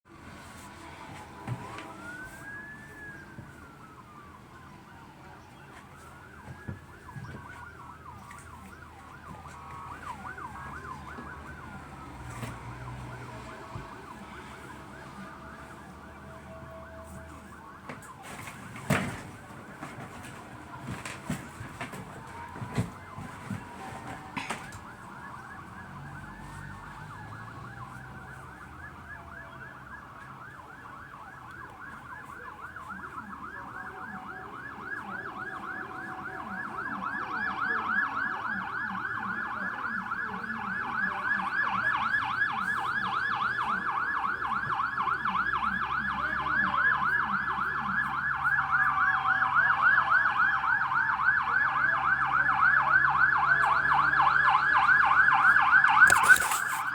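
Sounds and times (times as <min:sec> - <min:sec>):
low rumble of engines: 0:00.1 - 0:56.9
siren yelping: 0:01.1 - 0:19.9, 0:22.0 - 0:56.9.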